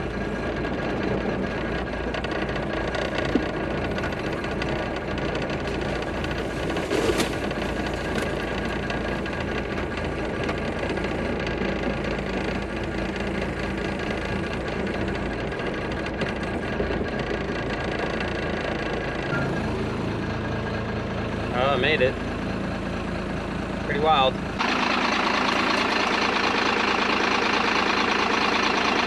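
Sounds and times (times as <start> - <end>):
road and drivetrain noise: 0.0 - 29.0
truck diesel engine droning: 0.0 - 29.0.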